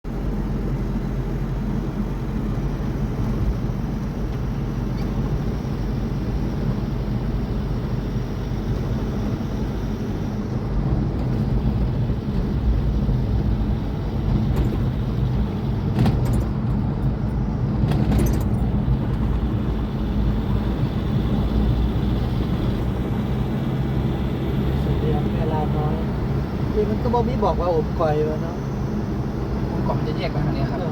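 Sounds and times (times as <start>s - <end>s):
vehicle engine hum and road noise: 0.0s - 30.9s.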